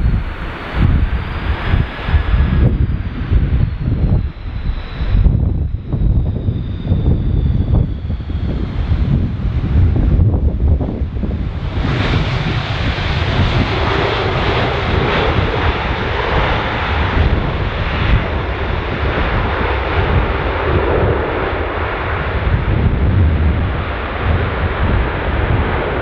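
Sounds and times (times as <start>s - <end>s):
jet engines rushing: 0.0s - 26.0s
wind rumbling on microphone: 0.0s - 26.0s.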